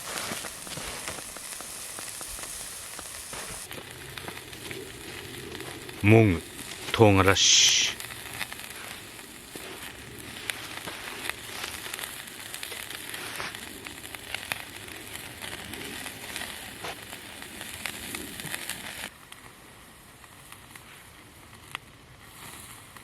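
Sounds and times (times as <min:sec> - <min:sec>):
meat sizzling on a grill: 0:00.0 - 0:23.0.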